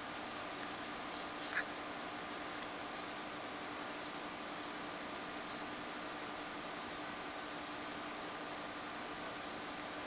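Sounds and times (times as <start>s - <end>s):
faint hum: 0.0s - 10.0s
steady hiss: 0.0s - 10.0s.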